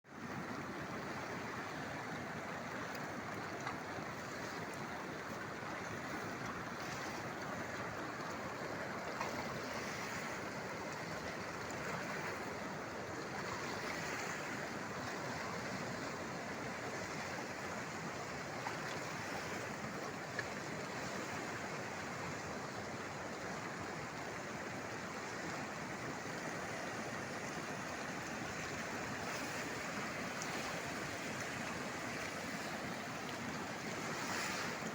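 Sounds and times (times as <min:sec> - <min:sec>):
waterfall and river rushing: 0:00.1 - 0:34.9.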